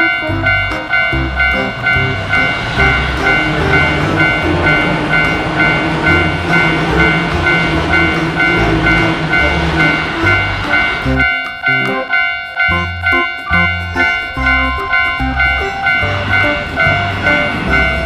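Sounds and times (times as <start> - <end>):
background music: 0.0 - 18.0
railroad crossing alarm ringing: 0.0 - 18.0
train passing with rushing rumble: 0.0 - 18.0.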